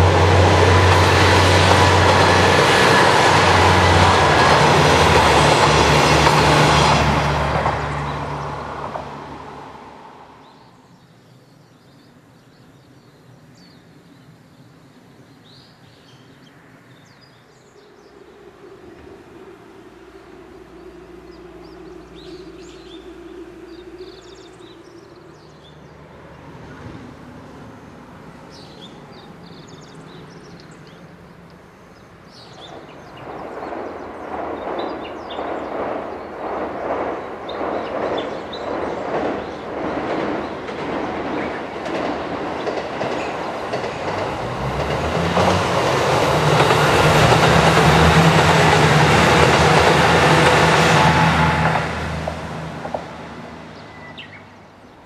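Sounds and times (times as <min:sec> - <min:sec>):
diesel train passing: 0:00.0 - 0:11.5, 0:16.6 - 0:55.0.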